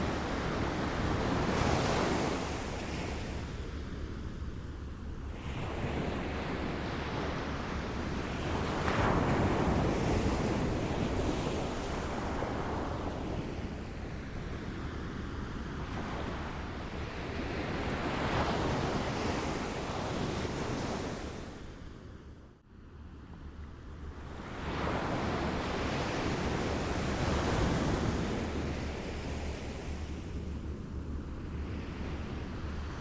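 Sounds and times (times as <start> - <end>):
waves lapping on a shore: 0.0 - 4.5, 5.2 - 21.8, 24.2 - 33.0.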